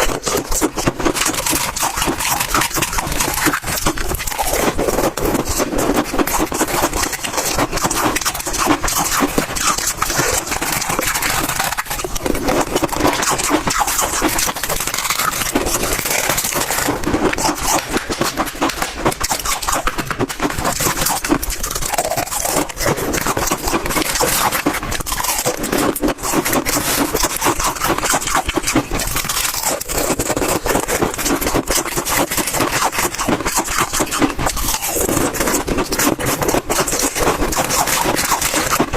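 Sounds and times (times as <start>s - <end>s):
frost being chewed crunching: 0.0s - 38.9s.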